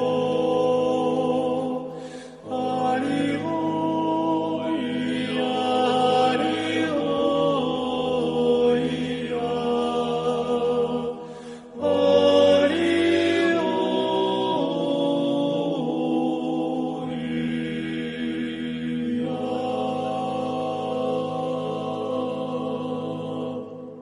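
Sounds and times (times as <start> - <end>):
choir singing chant: 0.0 - 24.0.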